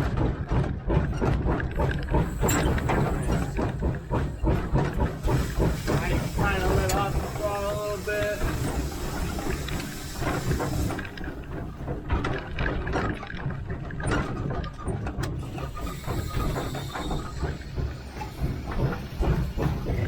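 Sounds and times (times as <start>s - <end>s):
running gear clanking and rattling: 0.0s - 20.0s
wheels rumbling on rails: 0.0s - 20.0s.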